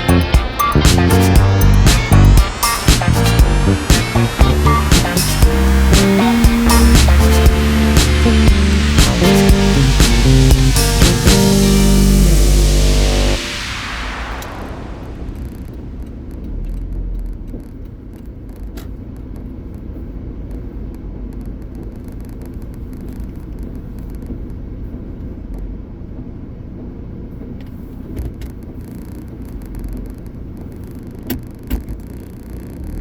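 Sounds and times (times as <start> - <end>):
road and engine rumble: 0.0 - 33.0.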